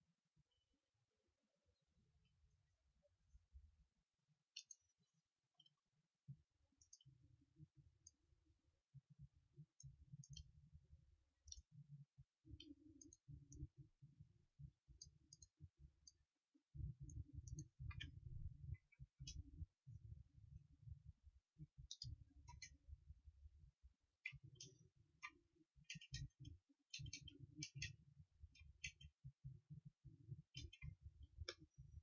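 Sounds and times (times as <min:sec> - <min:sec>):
faint irregular clicks: 0:04.4 - 0:32.0.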